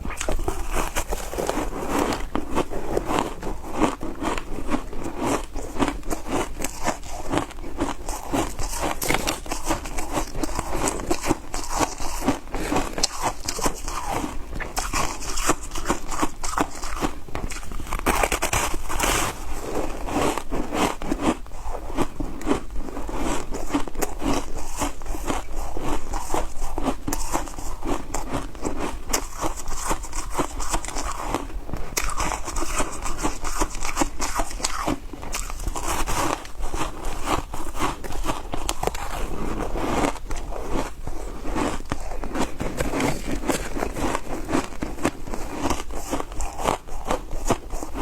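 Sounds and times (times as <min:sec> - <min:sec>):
ice being chewed: 0:00.0 - 0:48.0.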